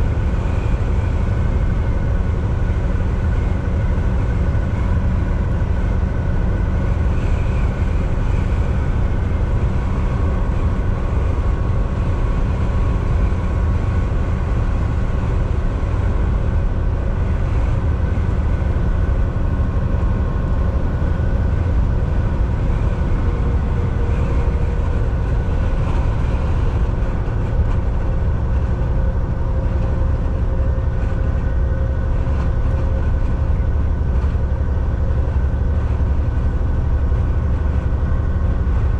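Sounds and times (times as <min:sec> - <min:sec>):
faint steady whines: 0:00.0 - 0:38.9
road rumble: 0:00.0 - 0:38.9
truck engine drone: 0:00.0 - 0:38.9.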